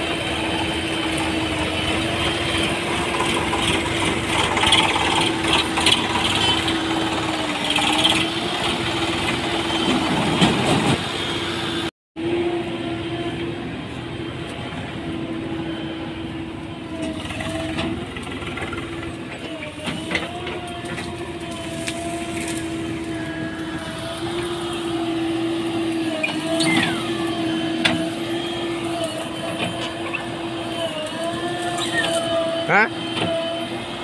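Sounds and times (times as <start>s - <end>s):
diesel engines running: 0.0s - 34.0s.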